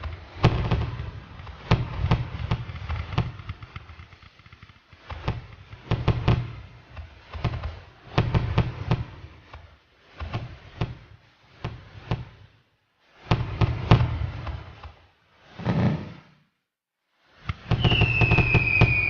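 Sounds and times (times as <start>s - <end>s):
fireworks bangs: 0.0s - 16.6s, 17.4s - 19.0s.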